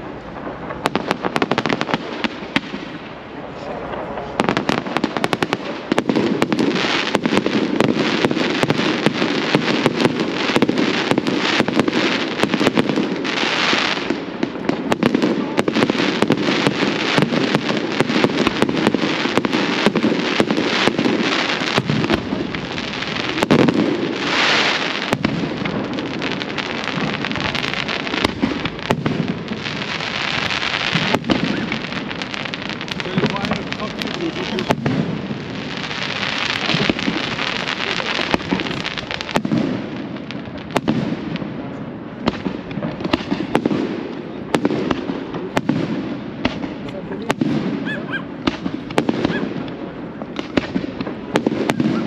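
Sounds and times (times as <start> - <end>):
fireworks bangs and pops: 0.0 - 52.0
fireworks crackling: 0.0 - 52.0.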